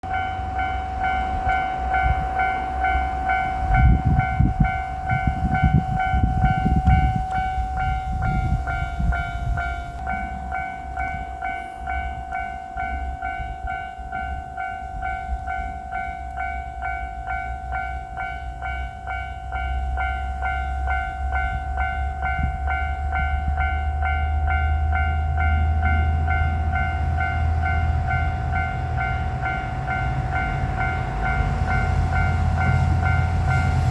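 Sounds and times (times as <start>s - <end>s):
diesel railcar rumbling: 0.0s - 33.9s
level-crossing warning bell: 0.0s - 33.9s.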